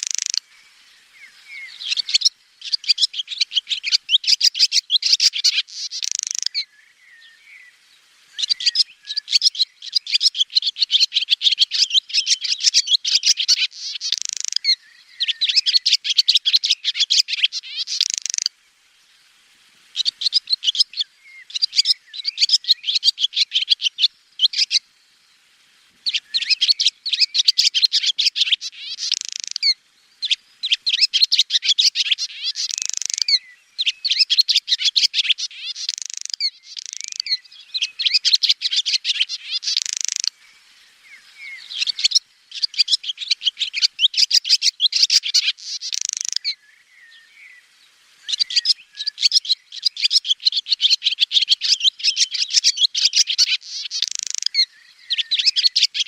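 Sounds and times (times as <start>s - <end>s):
swallow twittering: 0.0s - 18.5s, 20.0s - 24.8s, 26.0s - 47.6s, 48.2s - 56.0s.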